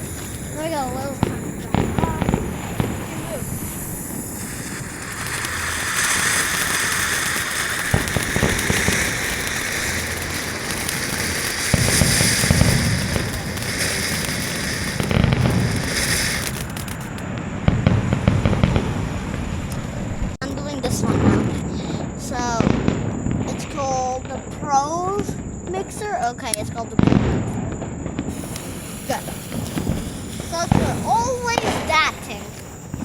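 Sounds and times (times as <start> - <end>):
firework crackling and popping: 0.0 - 33.0
firework hissing: 0.0 - 33.0.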